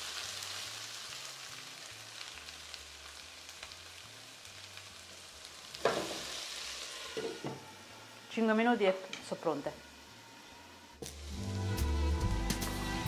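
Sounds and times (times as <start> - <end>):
potatoes sizzling in oil: 0.0 - 12.2.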